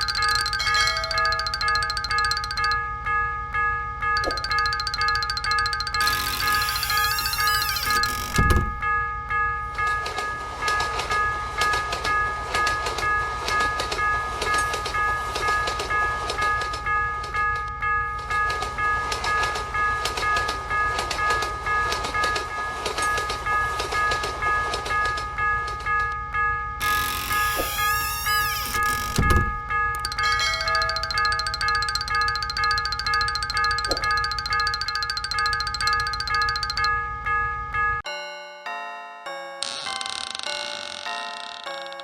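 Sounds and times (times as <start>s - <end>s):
crossing warning bell ringing: 0.0s - 38.0s.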